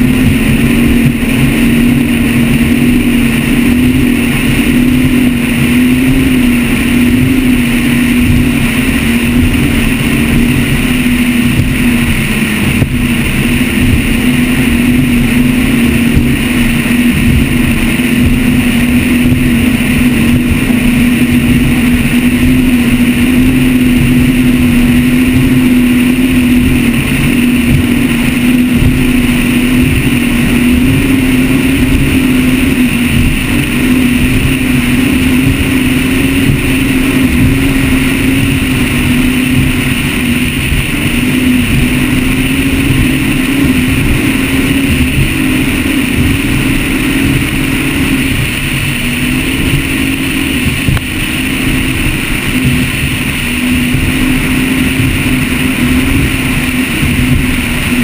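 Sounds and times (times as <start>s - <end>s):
boat engines droning: 0.0s - 58.0s
rushing water: 0.0s - 58.0s
rushing wind: 0.0s - 58.0s.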